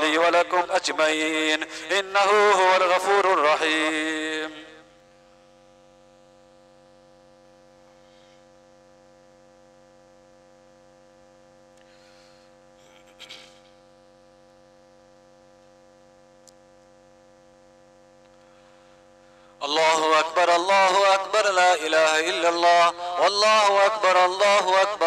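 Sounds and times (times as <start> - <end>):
faint electrical mains hum: 0.0 - 25.0.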